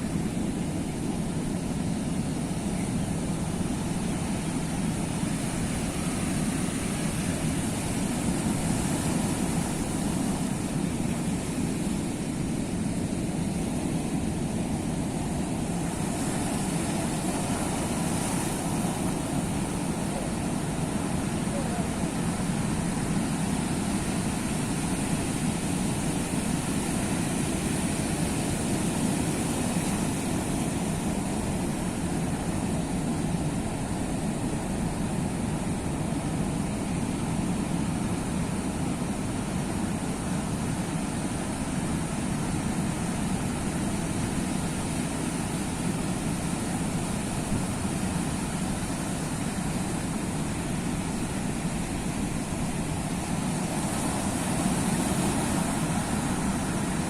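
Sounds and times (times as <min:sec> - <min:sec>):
sea surf roaring: 0:00.0 - 0:57.0.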